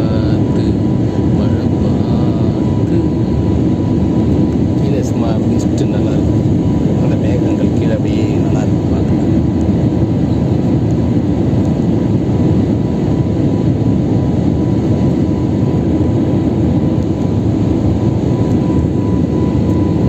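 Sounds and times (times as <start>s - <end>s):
faint steady whine: 0.0s - 20.0s
jet airliner cabin engine noise: 0.0s - 20.0s.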